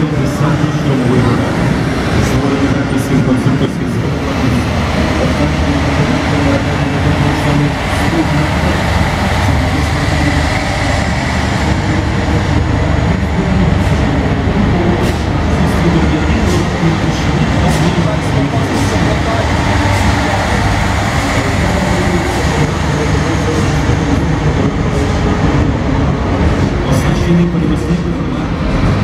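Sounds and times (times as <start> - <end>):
heavy trucks driving past: 0.0 - 29.0.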